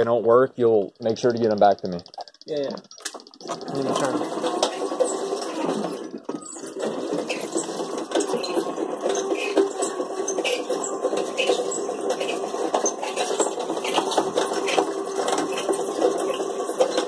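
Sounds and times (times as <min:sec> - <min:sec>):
mechanical rattling: 0:00.9 - 0:17.0.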